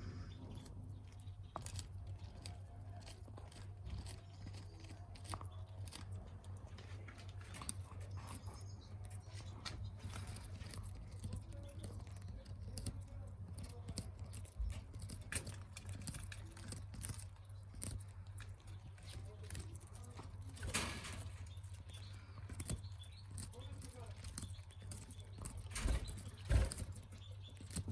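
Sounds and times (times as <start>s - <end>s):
budgies pecking at food: 0.0s - 27.9s.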